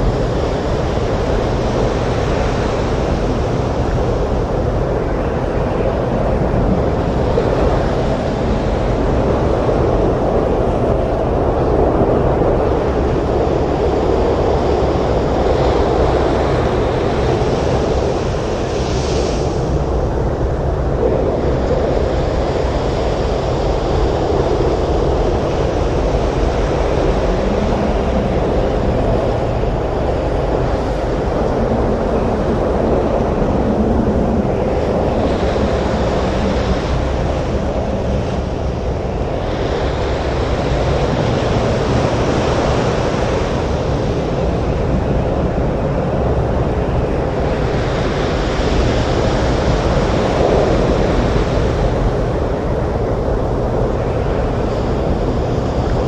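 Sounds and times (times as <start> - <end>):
strong wind: 0.0 - 56.0
waves breaking on a beach: 0.0 - 56.0.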